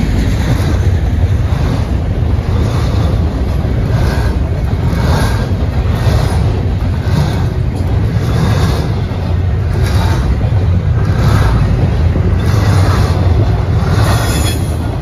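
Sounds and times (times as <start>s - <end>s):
train cars rumbling past: 0.0s - 15.0s
wheel clatter: 0.0s - 15.0s.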